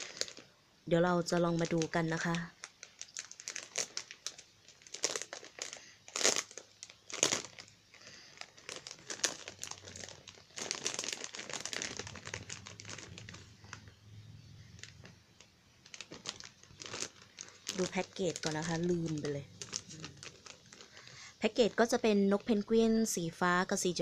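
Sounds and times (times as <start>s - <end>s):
plastic packaging crinkling: 0.0s - 22.6s.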